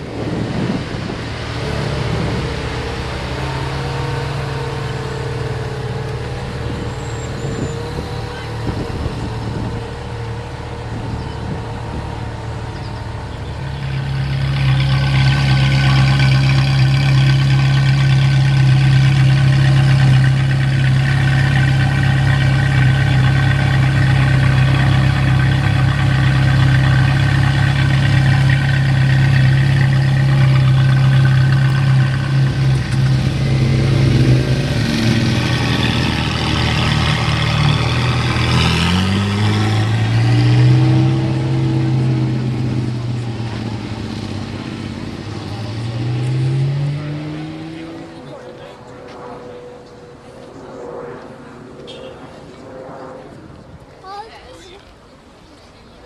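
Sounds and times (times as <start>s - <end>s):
car engine idling and revving: 0.0s - 53.8s.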